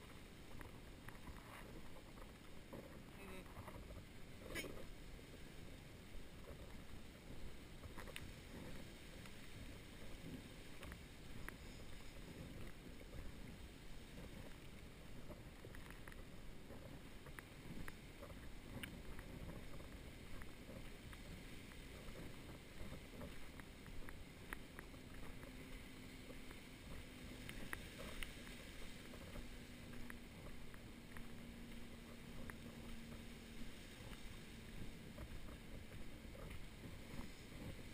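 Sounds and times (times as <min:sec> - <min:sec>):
faint steady hum: 0:00.0 - 0:37.9
wind rumble on microphone: 0:00.0 - 0:37.9
faint ticks: 0:05.6 - 0:37.9.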